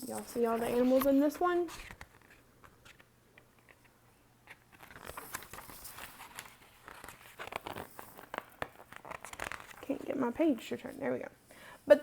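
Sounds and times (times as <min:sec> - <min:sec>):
paper pages rustling: 0:00.0 - 0:10.5.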